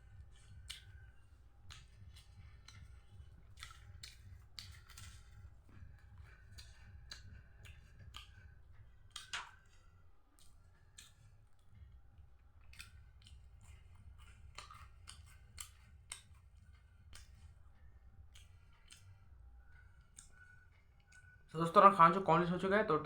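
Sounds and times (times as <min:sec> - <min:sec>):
biscuits being bitten and chewed: 0:00.0 - 0:22.6.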